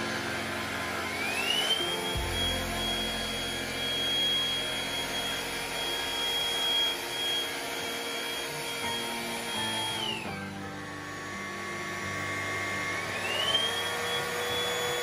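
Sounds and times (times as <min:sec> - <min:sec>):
stick vacuum running on tile: 0:00.0 - 0:15.0.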